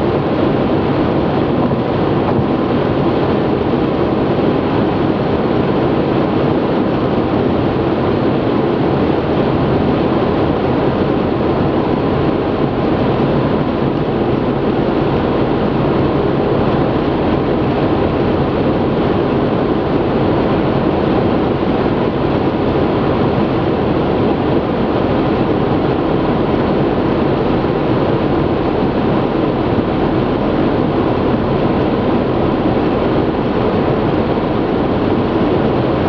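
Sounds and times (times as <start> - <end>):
low engine hum: 0.0 - 36.0
wind noise on car: 0.0 - 36.0.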